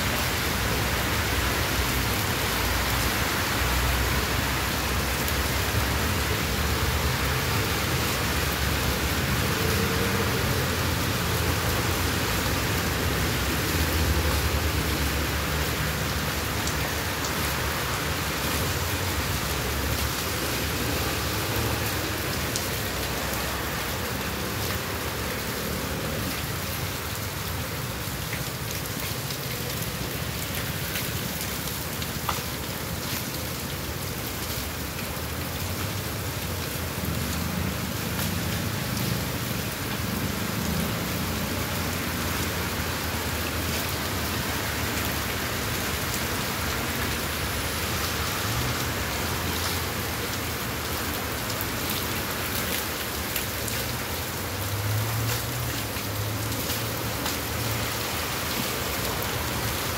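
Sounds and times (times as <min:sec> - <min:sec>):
heavy rain on pavement and cars: 0:00.0 - 0:59.9.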